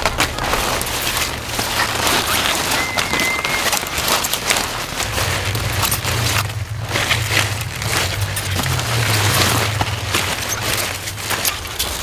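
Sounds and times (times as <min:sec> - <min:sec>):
broccoli leaves rustling and crackling: 0:00.0 - 0:12.0.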